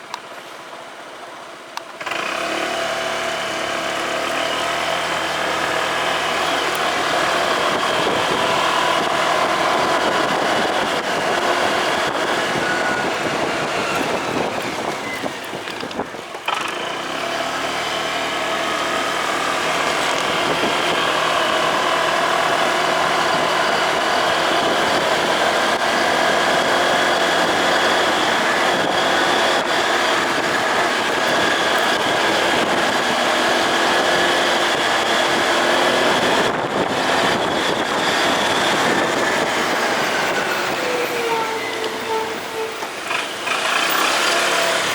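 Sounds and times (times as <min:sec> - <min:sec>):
motorcycle engine running: 0:02.0 - 0:44.9.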